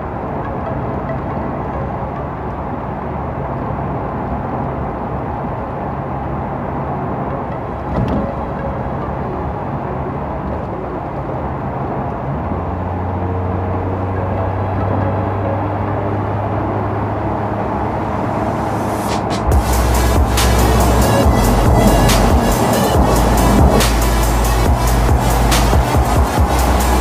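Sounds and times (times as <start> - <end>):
road and wind noise: 0.0 - 27.0
car engine running while driving: 2.2 - 27.0.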